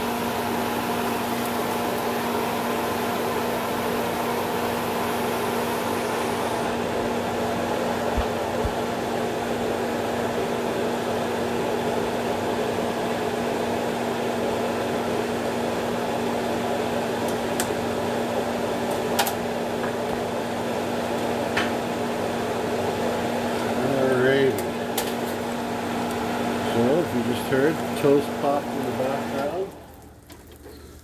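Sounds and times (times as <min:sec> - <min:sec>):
omelette cooking in frying pan: 0:00.0 - 0:08.0, 0:08.6 - 0:31.0
kitchen fan hum: 0:00.0 - 0:31.0.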